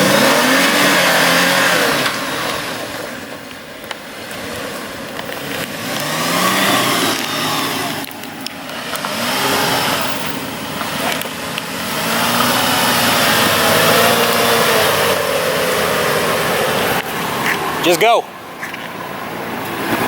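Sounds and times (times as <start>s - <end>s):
engine revving hard: 0.0s - 3.3s, 4.3s - 18.1s.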